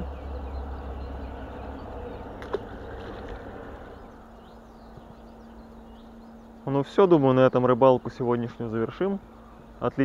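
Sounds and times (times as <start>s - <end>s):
faint bird chirps: 0.0s - 9.8s
steady low hum: 0.0s - 10.0s
wind and handling rumble: 0.0s - 10.0s.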